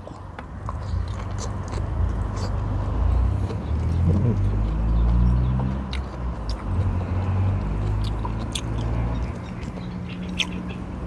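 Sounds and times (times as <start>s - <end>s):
low engine hum: 0.0s - 11.0s
man chewing food: 0.0s - 11.0s.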